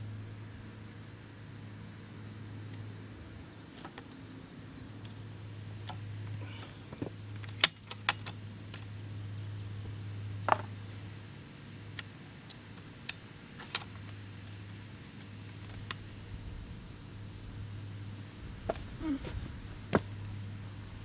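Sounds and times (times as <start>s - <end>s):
steady low hum: 0.0s - 3.6s, 4.3s - 21.0s.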